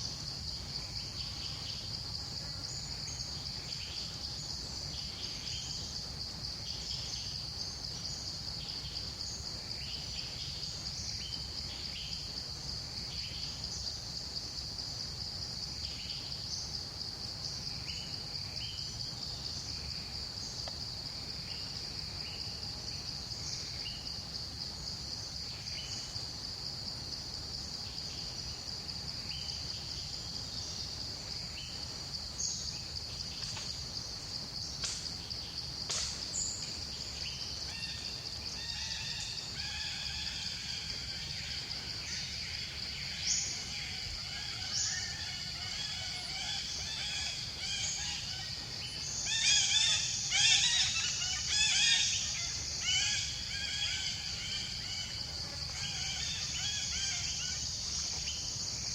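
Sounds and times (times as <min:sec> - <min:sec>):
insect chorus drone: 0:00.0 - 0:58.9.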